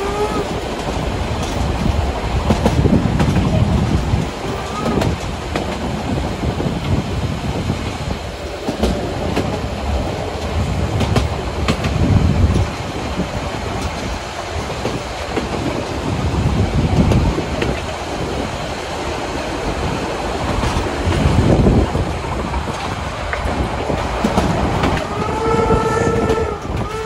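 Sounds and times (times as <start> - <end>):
train rumbling on rails: 0.0 - 27.0
wheels clicking over rail joints: 0.0 - 27.0.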